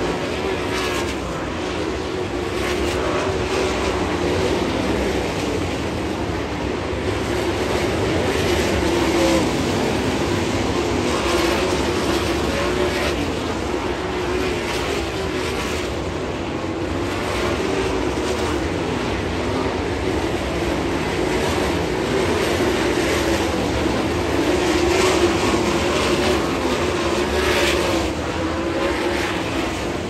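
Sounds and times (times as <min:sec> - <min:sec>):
racing car engines droning: 0:00.0 - 0:30.0.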